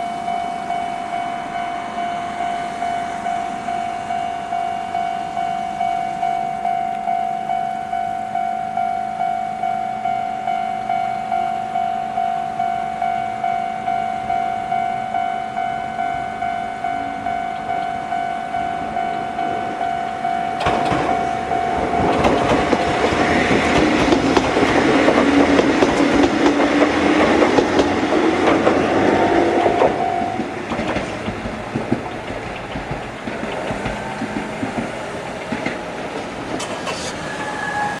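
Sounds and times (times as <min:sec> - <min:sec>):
level crossing alarm ringing: 0:00.0 - 0:31.8
electric train passing: 0:00.0 - 0:38.0.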